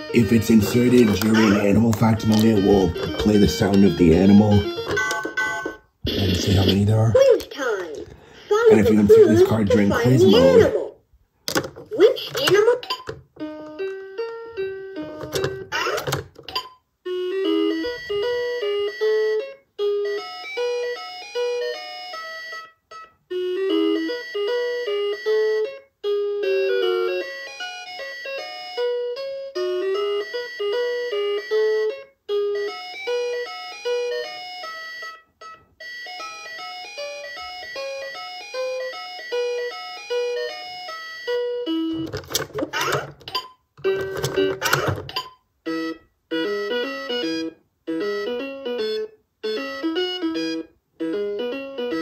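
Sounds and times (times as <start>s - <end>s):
toy beeping electronic melodies: 0.0s - 6.9s, 14.3s - 42.2s, 42.8s - 52.0s.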